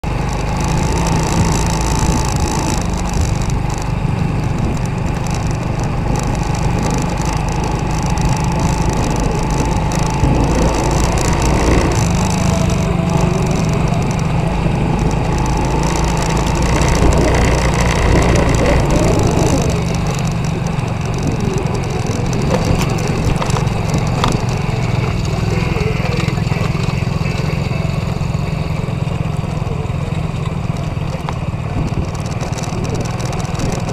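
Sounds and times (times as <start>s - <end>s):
rough crackly noise: 0.0s - 33.9s
small petrol engine running: 0.0s - 33.9s.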